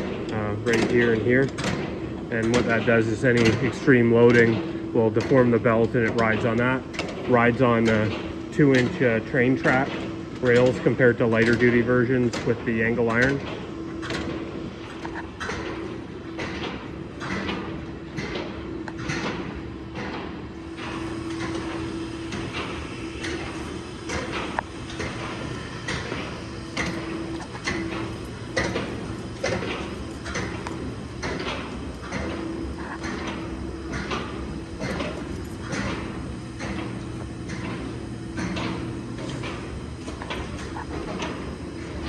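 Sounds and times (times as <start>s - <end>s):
conveyor drive hum: 0.0s - 42.0s.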